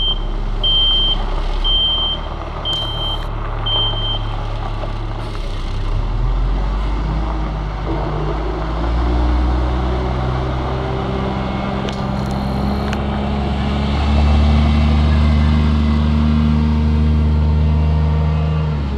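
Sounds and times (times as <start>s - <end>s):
garbage truck engine pulling away: 0.0s - 18.9s.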